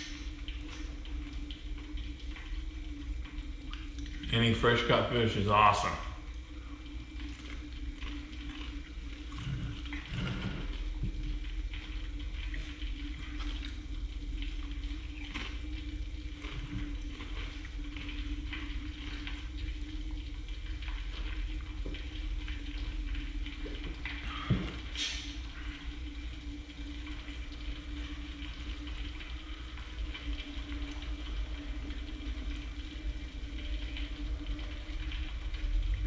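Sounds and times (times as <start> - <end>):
low hum: 0.0 - 36.0
oil frying crackle: 0.0 - 36.0.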